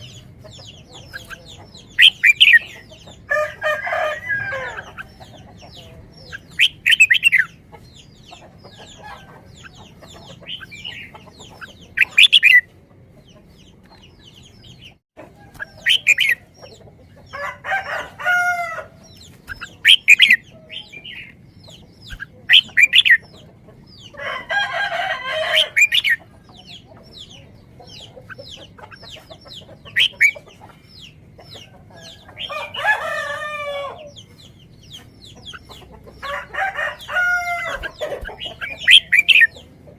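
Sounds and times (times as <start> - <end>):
birds calling: 0.0 - 39.9.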